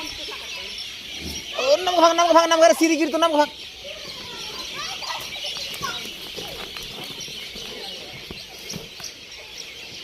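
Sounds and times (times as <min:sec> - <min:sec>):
low bird calls: 0:00.0 - 0:10.0
small birds chirping: 0:00.0 - 0:10.0.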